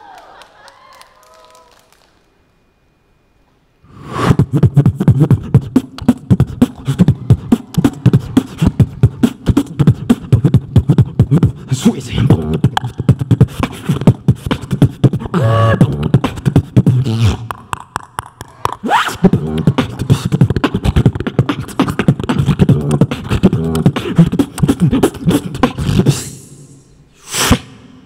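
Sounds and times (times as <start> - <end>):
pitched vocal tone: 3.9 - 27.9
person beatboxing into microphone: 4.2 - 28.0.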